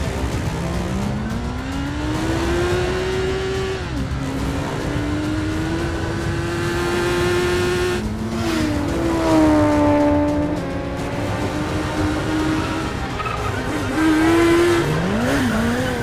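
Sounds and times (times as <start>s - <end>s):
motorcycle engine accelerating: 0.0s - 16.0s
other engines: 0.0s - 16.0s.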